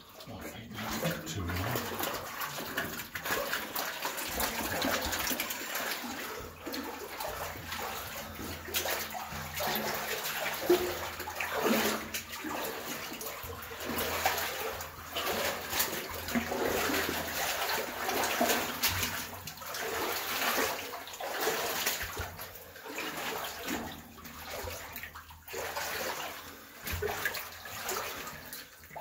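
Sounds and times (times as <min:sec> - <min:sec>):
water splashing around wading boots: 0:00.0 - 0:29.0.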